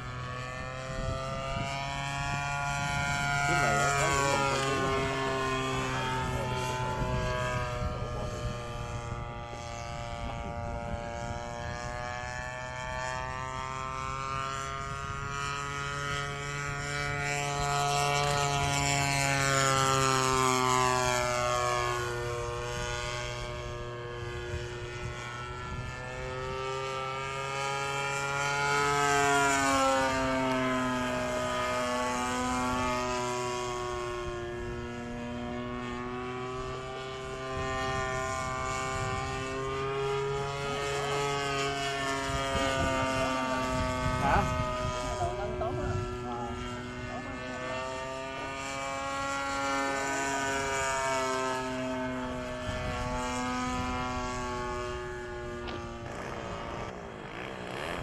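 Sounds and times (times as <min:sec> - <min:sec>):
model plane buzzing overhead: 0:00.0 - 0:58.0.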